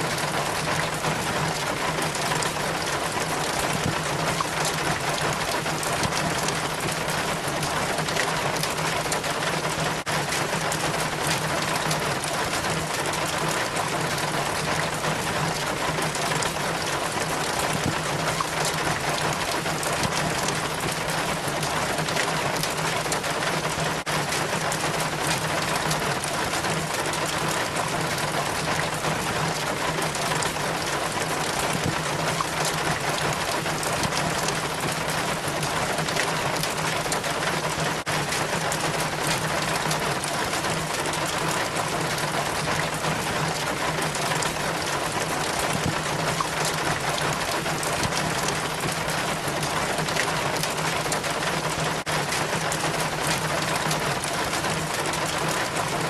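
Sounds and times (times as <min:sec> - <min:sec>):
rainwater trickling down rain chain: 0:00.0 - 0:56.0.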